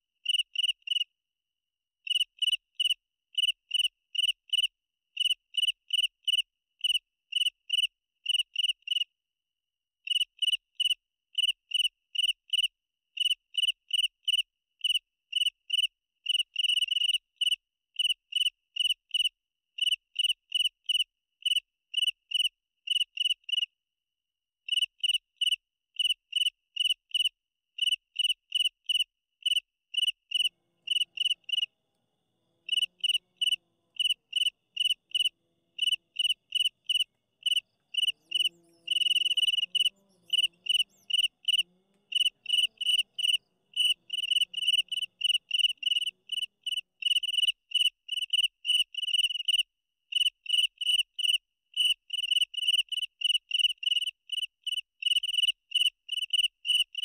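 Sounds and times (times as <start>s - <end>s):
cricket chirping: 0.2s - 1.0s, 10.1s - 23.7s, 24.7s - 57.0s.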